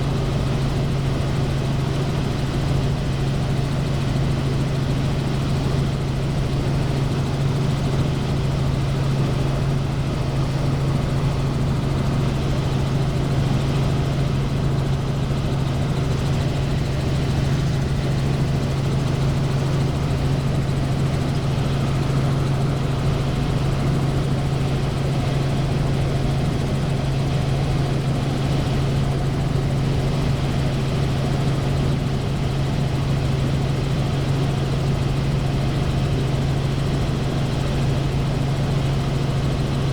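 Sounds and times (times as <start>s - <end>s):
helicopter droning: 0.0s - 39.9s.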